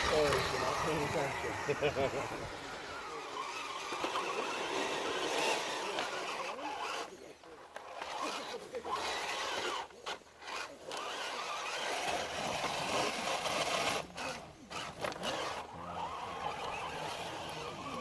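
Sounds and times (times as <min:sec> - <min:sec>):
rc truck motor whining: 0:00.0 - 0:18.0.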